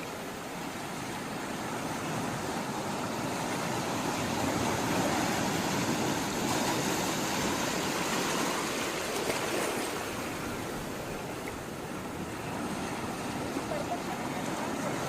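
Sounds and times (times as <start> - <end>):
sea water rushing: 0.0 - 15.0.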